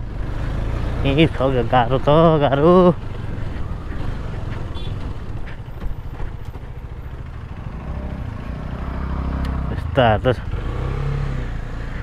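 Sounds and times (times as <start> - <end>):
motorcycle engine at low revs: 0.0 - 12.0
wind: 0.0 - 12.0.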